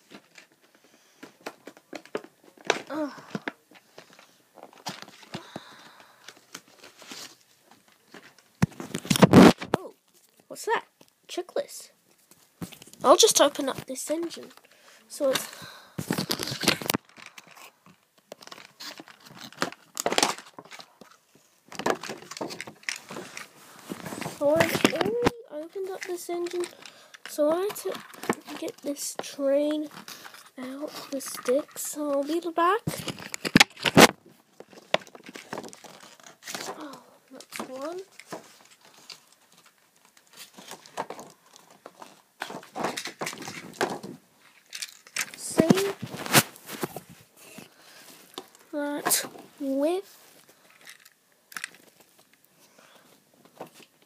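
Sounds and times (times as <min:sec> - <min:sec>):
packaging clicks and rustles: 0:00.0 - 0:10.4, 0:12.2 - 0:52.5
paper and cardboard crinkling: 0:00.0 - 0:10.5, 0:15.2 - 0:52.5.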